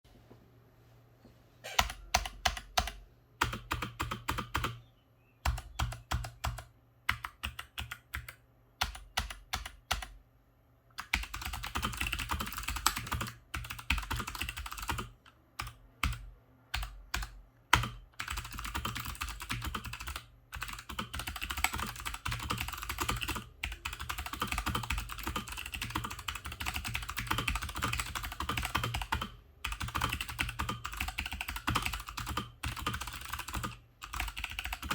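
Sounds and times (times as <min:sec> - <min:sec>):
clicky mechanical keyboard typing: 0:01.7 - 0:04.8, 0:05.4 - 0:10.2, 0:10.9 - 0:34.9.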